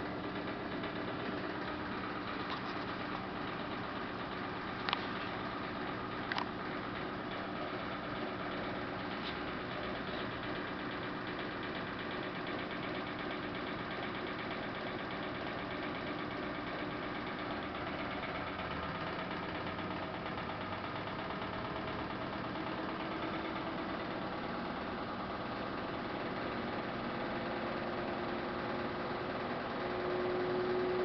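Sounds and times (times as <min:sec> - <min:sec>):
washing machine humming: 0:00.0 - 0:31.0.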